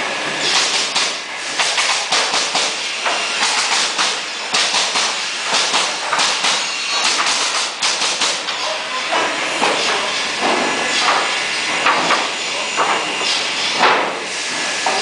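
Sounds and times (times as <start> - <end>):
steady machine noise: 0.0 - 15.0.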